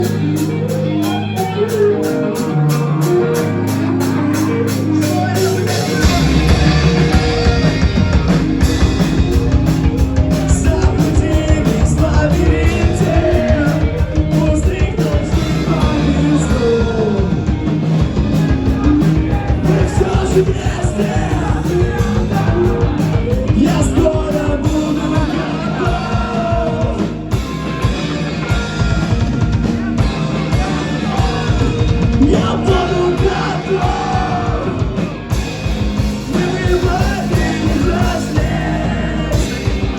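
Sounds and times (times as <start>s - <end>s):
drums: 0.0s - 39.9s
guitars: 0.0s - 39.9s
shouted singing: 1.4s - 39.9s.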